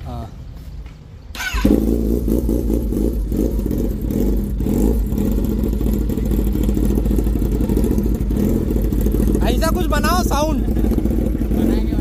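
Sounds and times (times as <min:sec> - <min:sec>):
motorcycle engine idling: 0:01.4 - 0:12.0.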